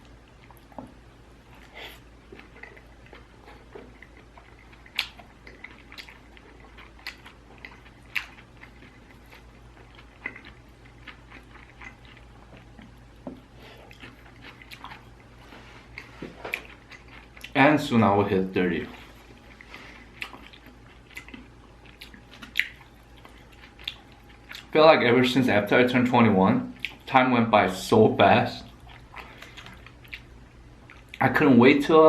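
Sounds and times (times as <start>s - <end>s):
close-miked chewing and biting: 0.0s - 17.6s, 18.9s - 24.8s, 26.7s - 27.1s, 28.6s - 31.3s.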